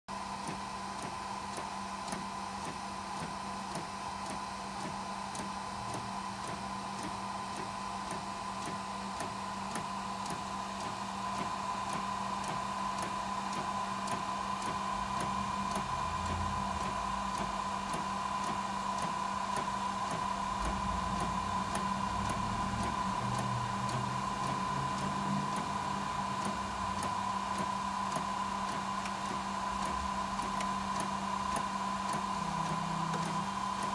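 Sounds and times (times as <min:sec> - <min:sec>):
printer humming with high whine: 0:00.1 - 0:33.9
light printer ticks: 0:00.2 - 0:33.9
low printer rumble: 0:04.7 - 0:33.9.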